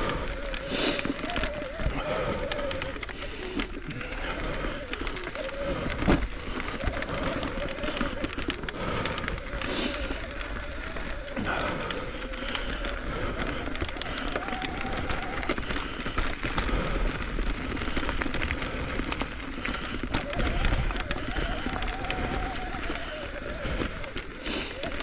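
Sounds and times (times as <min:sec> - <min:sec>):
bike rattling: 0:00.0 - 0:25.0
tyres crunching on gravel: 0:00.0 - 0:25.0.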